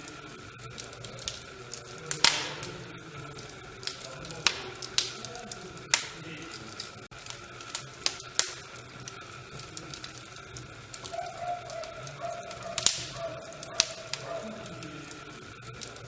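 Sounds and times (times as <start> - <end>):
fire crackling: 0.0 - 16.0
thin steady whistling tone: 0.0 - 16.0.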